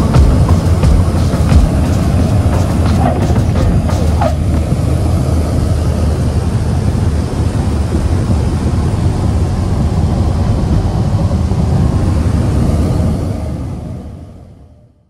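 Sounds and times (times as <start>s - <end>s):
propeller plane cabin drone: 0.0s - 15.0s.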